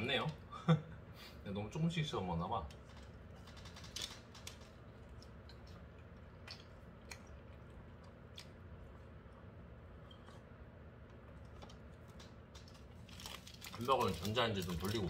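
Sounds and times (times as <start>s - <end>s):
faint chewing of fries: 2.7s - 15.0s.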